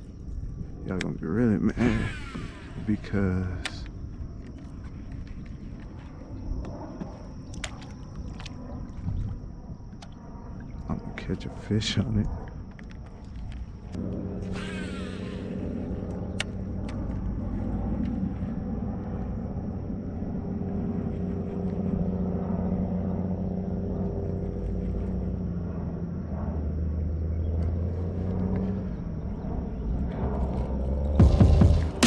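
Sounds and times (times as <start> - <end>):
deep rumble: 0.0 - 32.0
low mechanical hum: 0.0 - 32.0.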